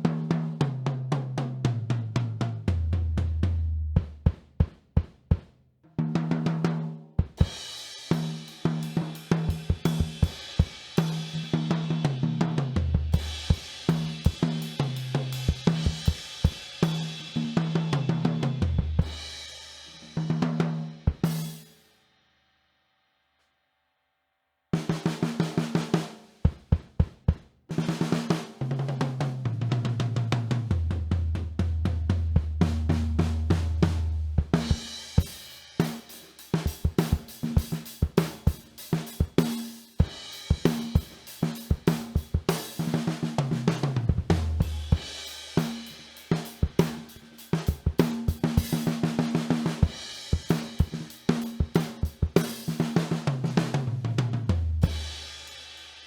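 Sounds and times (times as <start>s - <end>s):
drum kit beat: 0.0s - 21.7s, 24.8s - 56.0s.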